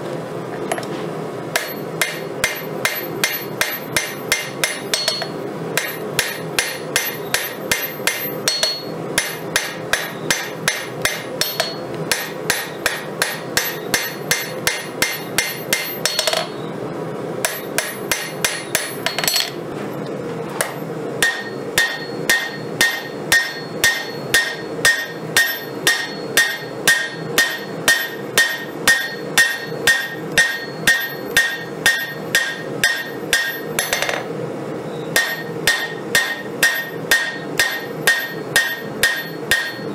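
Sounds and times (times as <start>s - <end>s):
hammer striking steel on anvil: 1.5s - 16.6s, 17.4s - 19.6s, 20.6s - 34.3s, 35.2s - 39.9s.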